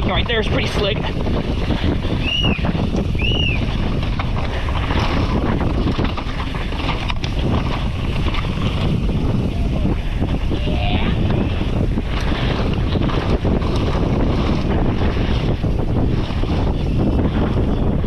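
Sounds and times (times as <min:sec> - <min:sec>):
bike rumbling and rattling: 0:00.0 - 0:18.0
wind buffeting microphone: 0:00.0 - 0:18.0.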